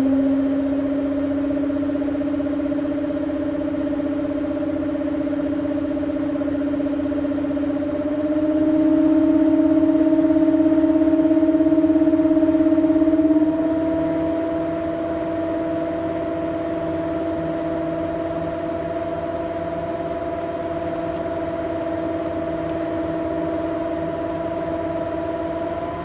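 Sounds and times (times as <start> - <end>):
computer fan humming: 0.0 - 26.0.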